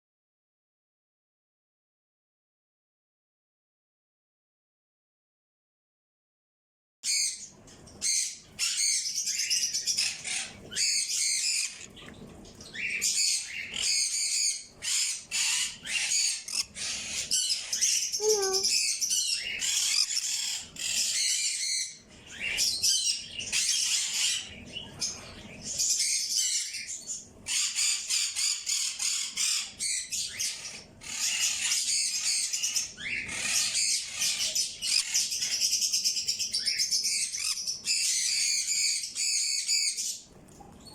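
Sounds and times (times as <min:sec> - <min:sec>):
small birds chirping: 0:07.1 - 0:40.9.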